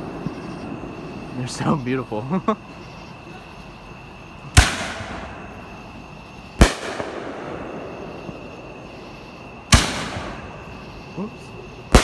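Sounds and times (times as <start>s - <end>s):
fireworks explosions: 0.0s - 12.0s.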